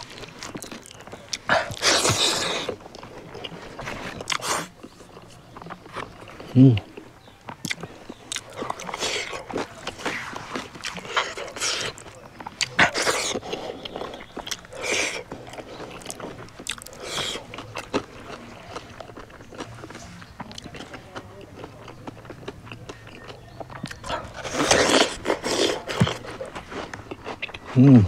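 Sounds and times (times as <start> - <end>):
chewing and mouth noises: 0.0 - 28.0.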